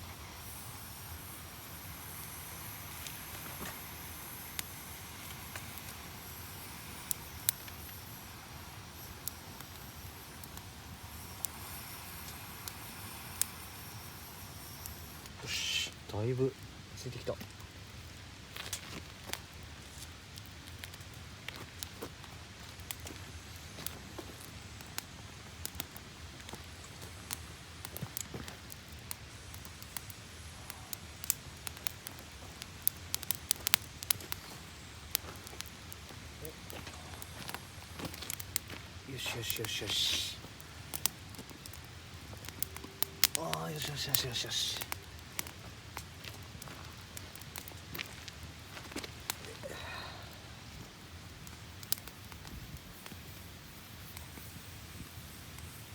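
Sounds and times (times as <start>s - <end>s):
campfire crackling and popping: 0.0s - 55.9s
low steady fire hiss: 0.0s - 55.9s.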